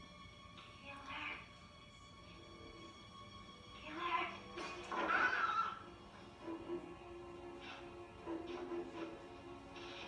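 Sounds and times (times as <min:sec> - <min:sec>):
tense orchestral score: 0:00.0 - 0:10.0.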